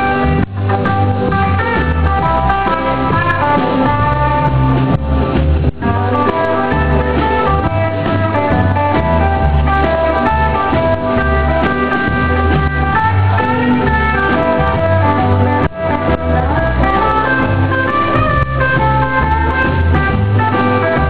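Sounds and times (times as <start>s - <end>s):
rockabilly band playing: 0.0s - 21.0s.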